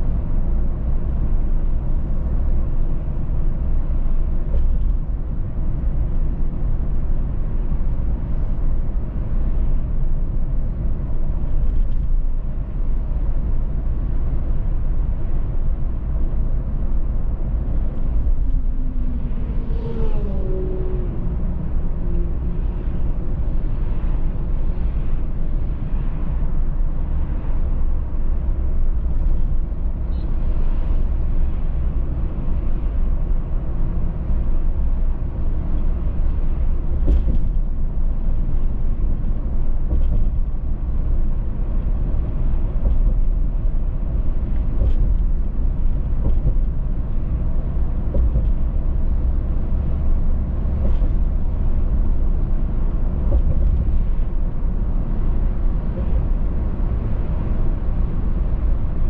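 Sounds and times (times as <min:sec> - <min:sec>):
car road and tyre rumble: 0:00.0 - 0:59.0.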